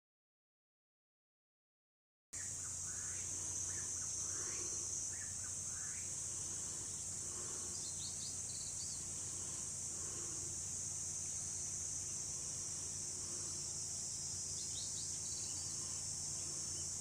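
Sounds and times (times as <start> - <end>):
high-pitched insect chorus: 2.4 - 17.0.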